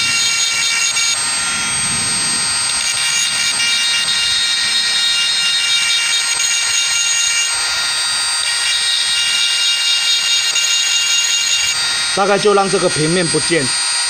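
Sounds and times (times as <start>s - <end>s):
rotary tool grinding metal: 0.0s - 14.0s.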